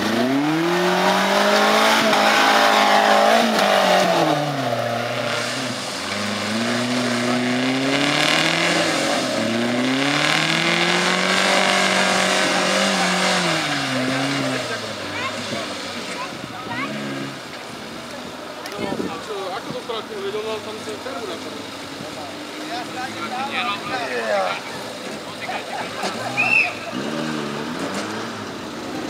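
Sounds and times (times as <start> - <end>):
engine revving under load: 0.0 - 29.0.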